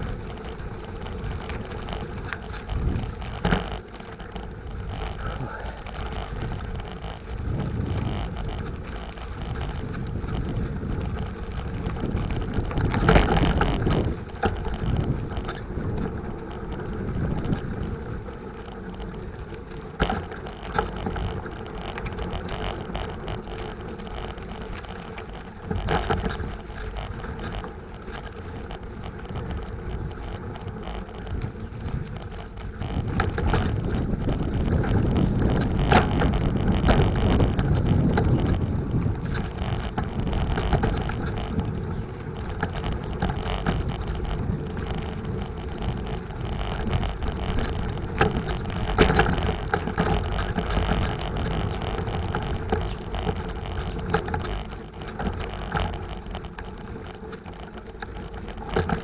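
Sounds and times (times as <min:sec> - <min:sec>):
bicycle rattling over bumps: 0:00.0 - 0:59.0
bicycle wheels rolling: 0:00.0 - 0:59.0.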